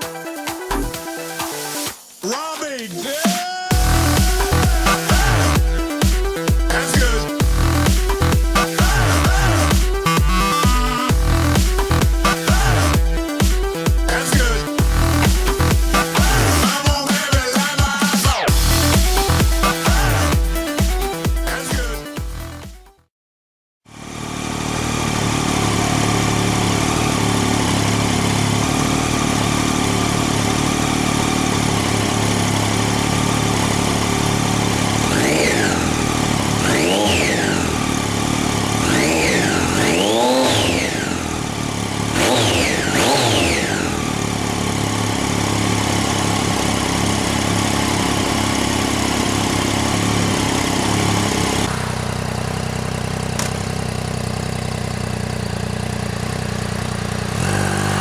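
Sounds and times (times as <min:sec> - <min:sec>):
motorcycle engine idling and revving: 0:03.7 - 0:22.8, 0:23.8 - 0:58.0.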